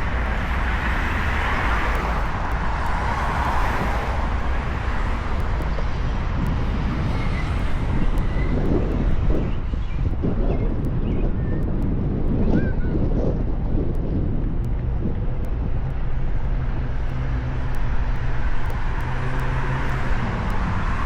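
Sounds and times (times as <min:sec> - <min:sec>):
rush of riding noise: 0:00.0 - 0:21.0
wind rumble on microphone: 0:00.0 - 0:21.0.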